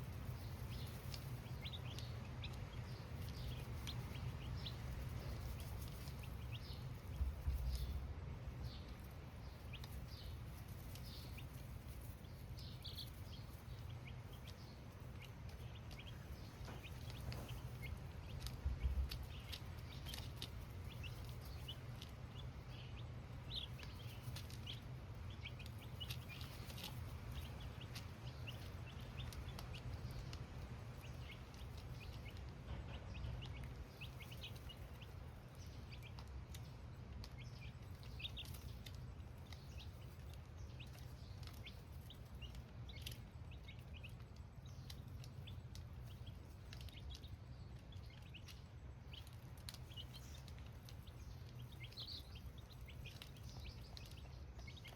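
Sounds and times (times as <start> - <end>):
chicks cheeping: 0.0 - 54.9
steady low hum: 0.0 - 54.9.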